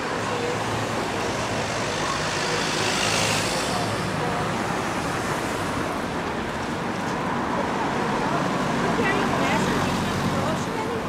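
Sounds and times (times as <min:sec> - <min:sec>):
cars in slow traffic: 0:00.0 - 0:11.0.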